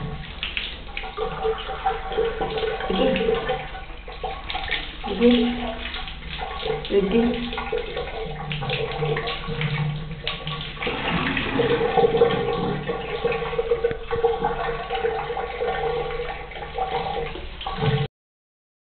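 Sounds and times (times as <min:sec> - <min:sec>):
tap water running and splashing: 0:00.0 - 0:18.1.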